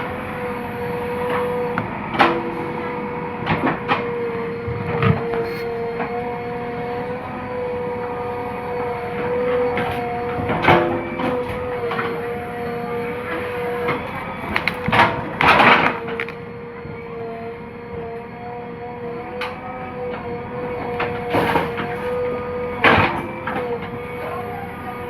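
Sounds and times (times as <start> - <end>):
diesel engine running: 0.0 - 25.0
high hydraulic whine: 0.0 - 25.0.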